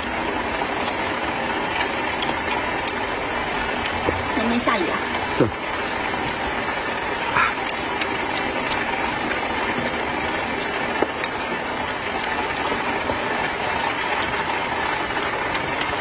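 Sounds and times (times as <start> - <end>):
steady rain hiss: 0.1 - 15.4.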